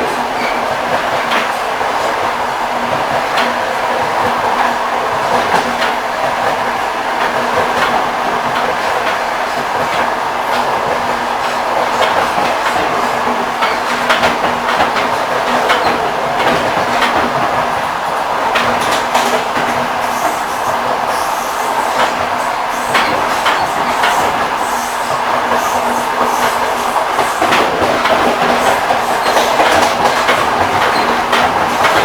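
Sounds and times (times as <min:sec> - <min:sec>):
train wheels clattering over rail joints: 0:00.0 - 0:32.0.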